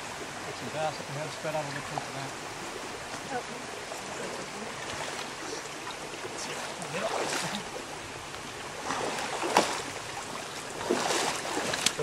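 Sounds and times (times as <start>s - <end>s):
creek water sloshing: 0.0s - 12.0s.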